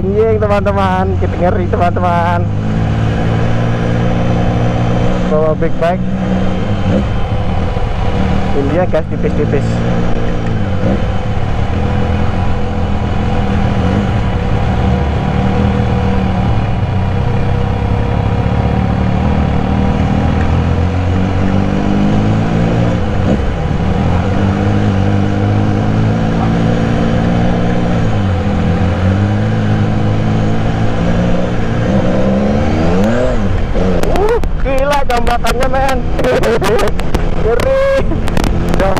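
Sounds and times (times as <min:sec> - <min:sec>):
motorcycle engine at low revs: 0:00.0 - 0:38.9.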